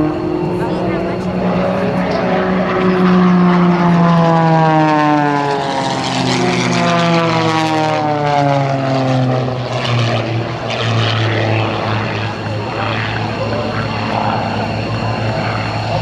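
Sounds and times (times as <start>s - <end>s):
propeller planes flying past: 0.0s - 16.0s.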